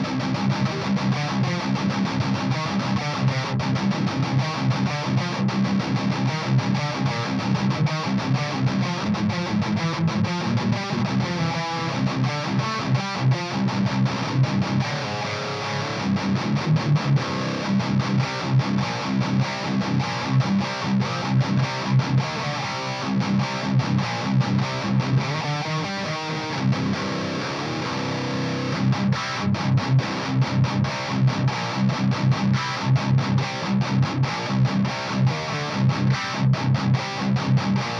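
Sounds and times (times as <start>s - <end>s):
electric guitar riffs: 0.0s - 37.9s.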